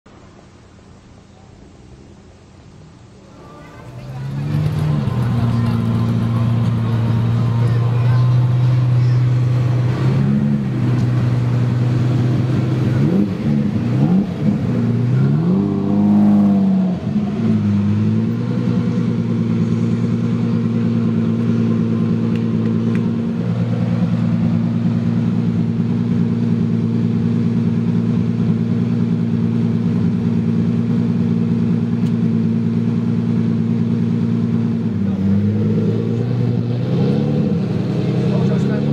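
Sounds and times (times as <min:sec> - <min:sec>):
sports car engine revving and idling: 0:03.4 - 0:38.9.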